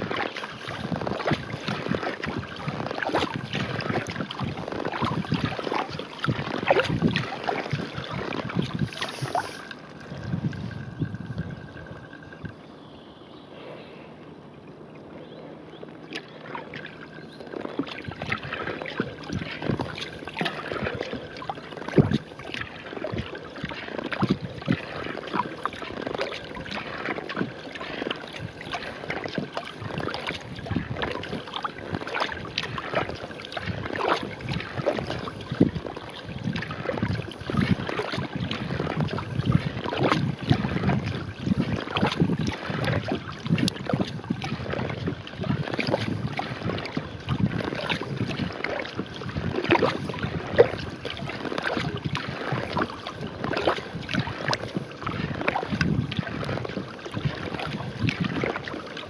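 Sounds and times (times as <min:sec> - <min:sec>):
water splashes and drips: 0:00.0 - 0:12.8, 0:15.9 - 0:59.0
paddle strokes in water: 0:00.0 - 0:59.0.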